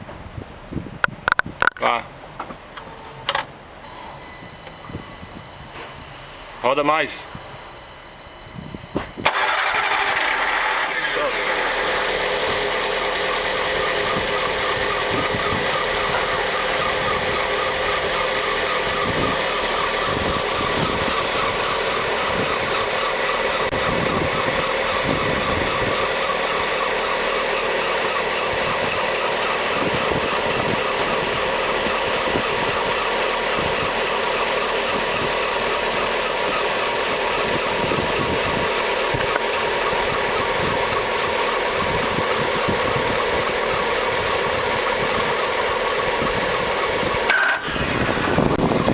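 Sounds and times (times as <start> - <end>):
high-pitched drive belt noise: 3.0 - 48.9
car engine idling: 9.3 - 48.9.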